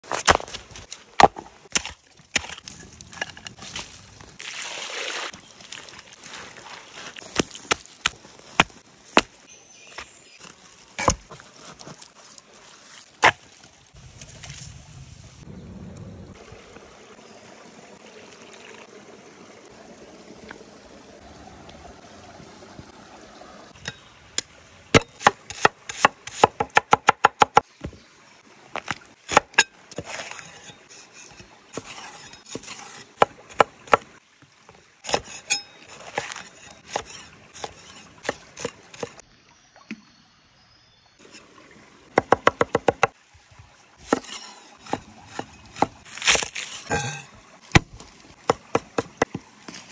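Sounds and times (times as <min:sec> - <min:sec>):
running water: 0:00.0 - 0:15.1, 0:16.3 - 0:26.6, 0:27.7 - 0:40.2, 0:41.2 - 0:49.9.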